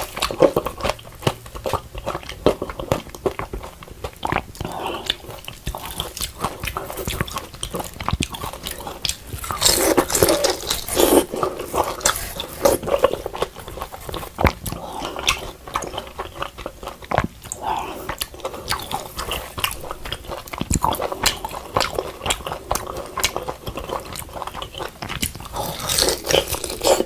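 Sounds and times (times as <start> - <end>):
crunching crispy food: 0.0 - 27.0
wet chewing: 0.0 - 27.0.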